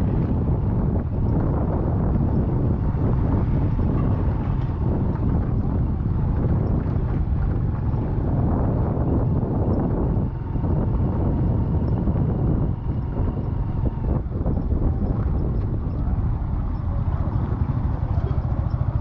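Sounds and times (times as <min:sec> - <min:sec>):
vehicle rumble: 0:00.0 - 0:19.0
wind noise on microphone: 0:00.0 - 0:19.0.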